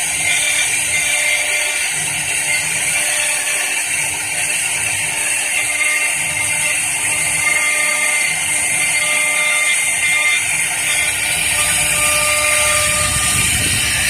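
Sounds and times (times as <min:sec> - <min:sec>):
hiss of wood being cut: 0:00.0 - 0:14.0
lathe spindle whining: 0:00.0 - 0:14.0.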